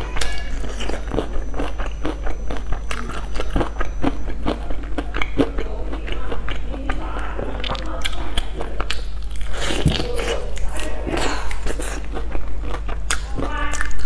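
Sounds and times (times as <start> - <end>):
crunchy chewing: 0.0 - 14.0
steady low hum: 0.0 - 14.0.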